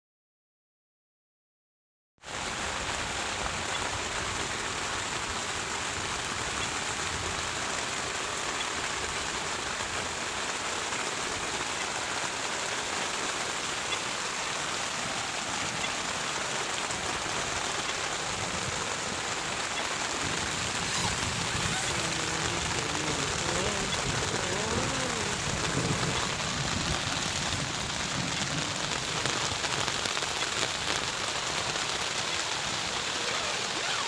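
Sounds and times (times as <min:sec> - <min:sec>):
heavy rain falling: 0:02.2 - 0:34.0.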